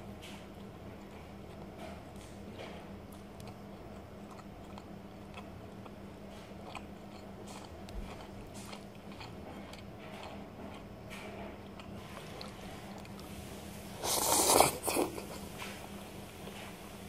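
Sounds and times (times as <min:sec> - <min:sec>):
steady low hum: 0:00.0 - 0:17.0
chewing noodles: 0:00.2 - 0:13.3, 0:14.0 - 0:16.8.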